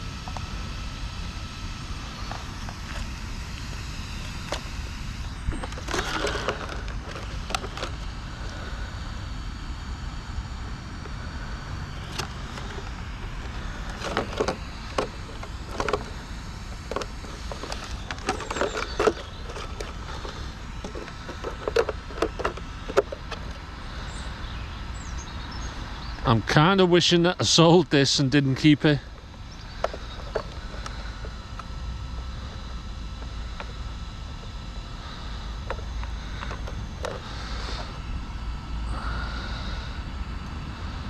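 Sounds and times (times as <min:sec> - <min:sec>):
rc car motor whine: 0:00.0 - 0:41.0.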